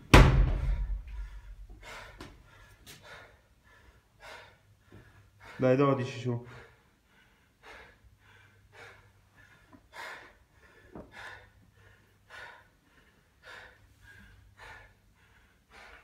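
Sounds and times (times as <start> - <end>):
heavy breathing: 0.5 - 16.0.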